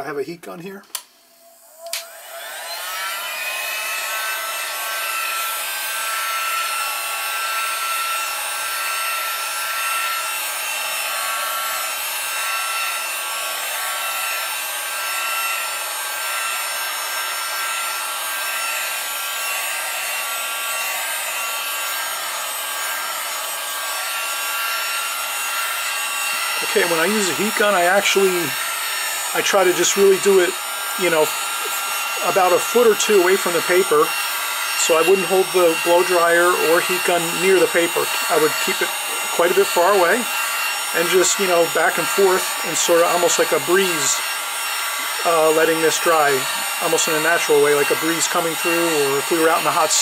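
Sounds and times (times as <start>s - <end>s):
heat gun fan whining: 0.8s - 21.8s, 24.0s - 50.0s.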